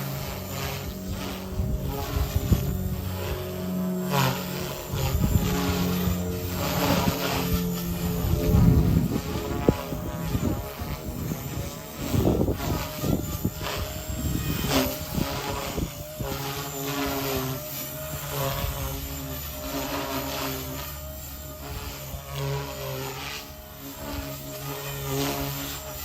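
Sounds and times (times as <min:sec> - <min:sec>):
rc helicopter rotors whining: 0:00.0 - 0:26.0.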